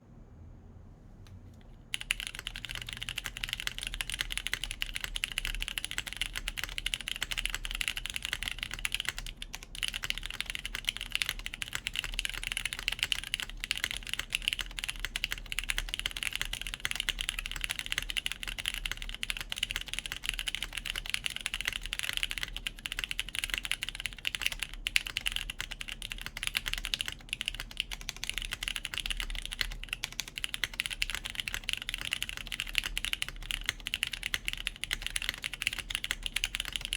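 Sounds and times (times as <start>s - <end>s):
mechanical keyboard typing: 1.9s - 36.9s.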